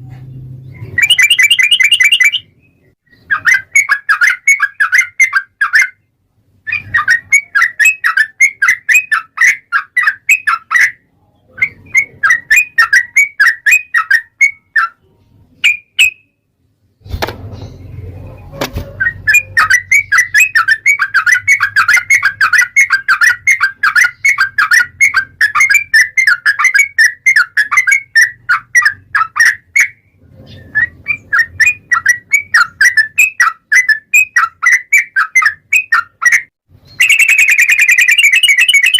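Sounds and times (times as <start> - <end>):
bulbul chattering song: 0.6 - 6.1, 6.7 - 16.4, 19.0 - 38.9.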